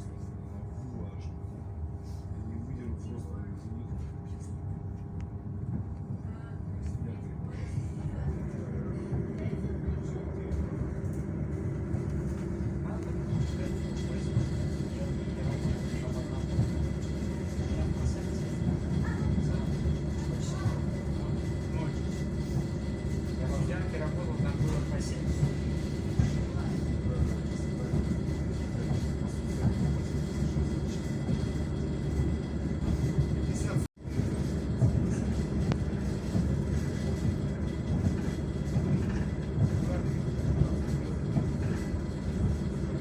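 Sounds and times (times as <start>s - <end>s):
train wheels rumbling on rails: 2.4s - 43.0s.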